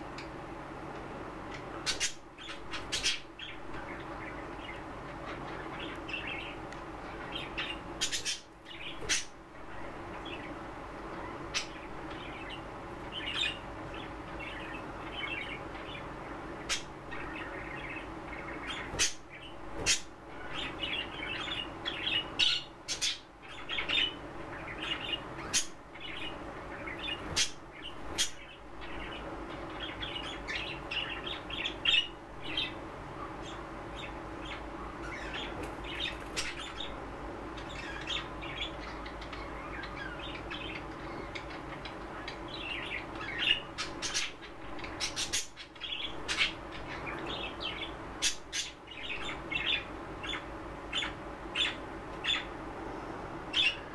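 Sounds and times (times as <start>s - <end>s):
low background hum: 0.0s - 53.9s
budgerigars chirping and chattering: 1.5s - 52.6s, 53.5s - 53.9s.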